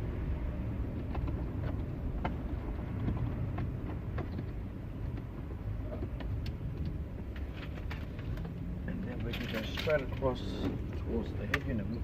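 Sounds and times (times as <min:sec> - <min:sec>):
steady low rumble: 0:00.0 - 0:12.0
clicks and rustles of cable and trim: 0:00.9 - 0:12.0.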